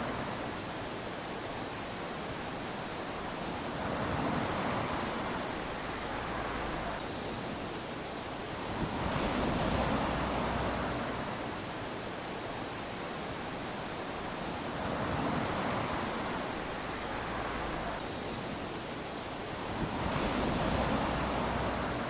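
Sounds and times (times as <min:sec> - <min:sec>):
small waves lapping on sand: 0:00.0 - 0:22.0.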